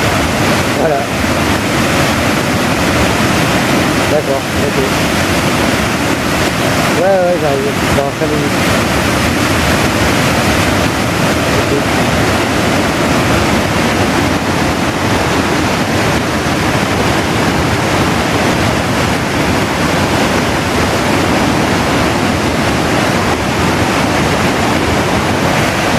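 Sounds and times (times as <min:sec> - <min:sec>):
river rushing over a weir: 0:00.0 - 0:25.9.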